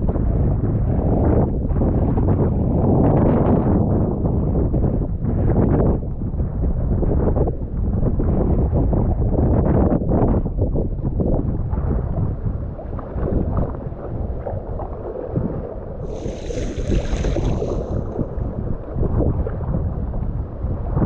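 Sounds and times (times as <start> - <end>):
water around a kayak: 0.0 - 21.0
wind buffeting microphone: 0.0 - 21.0.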